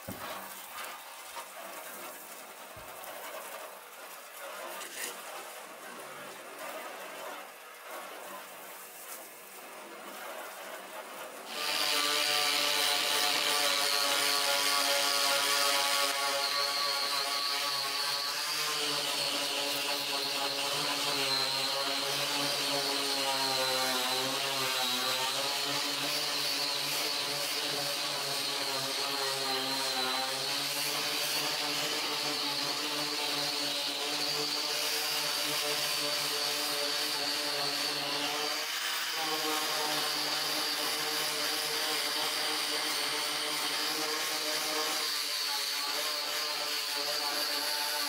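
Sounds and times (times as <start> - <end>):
angle grinder sanding sheet metal: 0.0 - 48.0.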